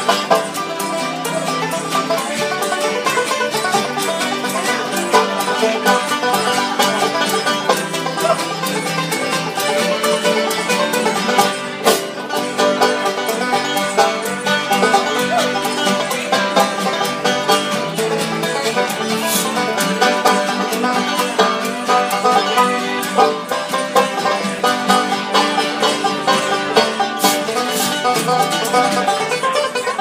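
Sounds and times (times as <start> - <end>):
acoustic guitar strumming: 0.0 - 30.0
banjo picking: 0.0 - 30.0.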